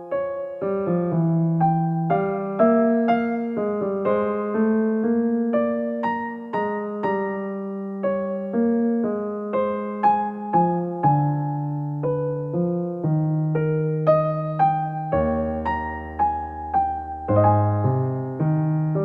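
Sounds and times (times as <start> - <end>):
gentle electric piano melody: 0.0 - 19.0.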